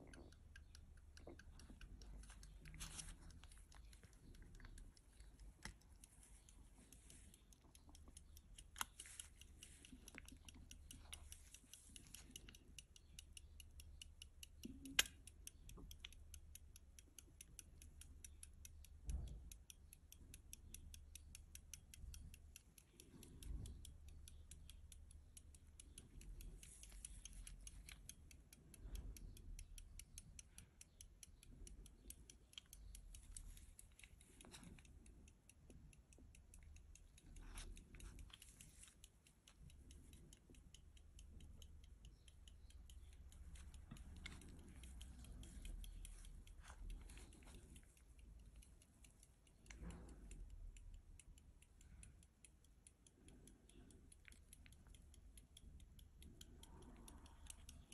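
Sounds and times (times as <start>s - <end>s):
pocket watch ticking: 0.0s - 57.9s.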